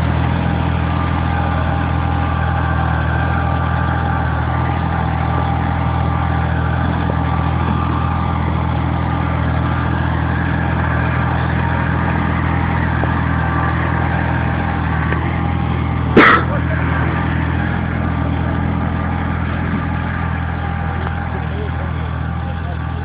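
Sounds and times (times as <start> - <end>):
tractor engine under load: 0.0 - 23.0.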